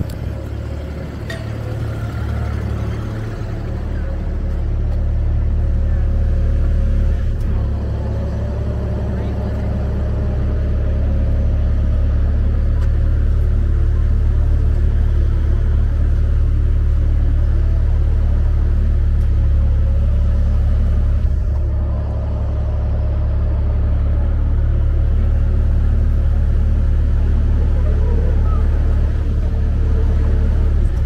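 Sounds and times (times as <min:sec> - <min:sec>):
cars driving through: 0:00.0 - 0:31.0
heavy low traffic rumble: 0:00.0 - 0:31.0.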